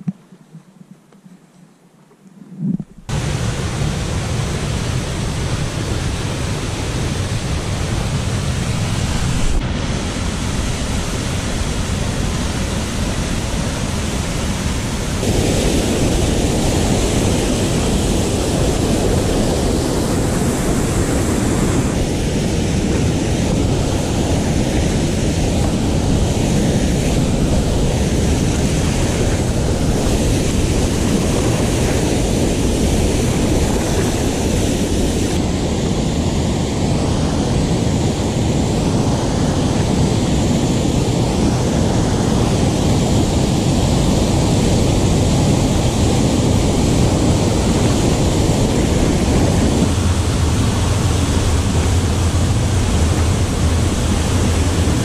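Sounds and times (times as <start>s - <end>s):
wind on microphone: 0.0s - 55.0s
waterfall roaring: 2.9s - 55.0s.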